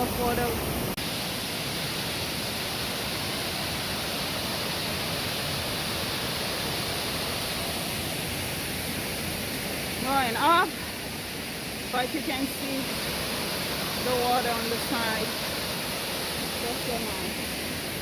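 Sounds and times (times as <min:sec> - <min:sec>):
stream of water rushing: 0:00.0 - 0:18.0.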